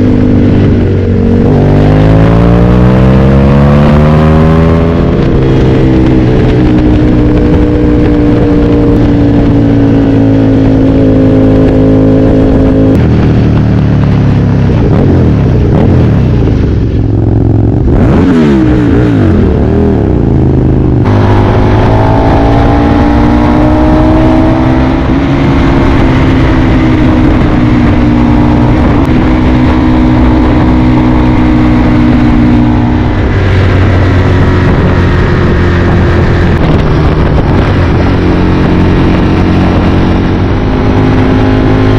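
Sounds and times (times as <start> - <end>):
motorcycle engine riding: 0.0 - 41.9.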